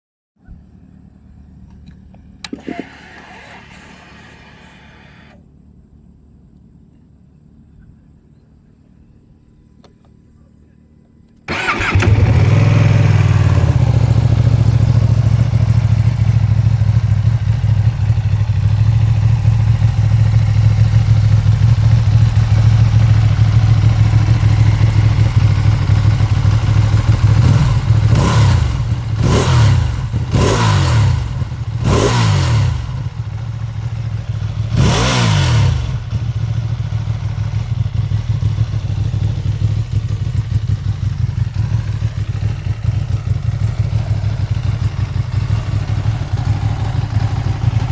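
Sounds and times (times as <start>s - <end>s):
motorcycle engine idling and revving: 0.4s - 47.9s.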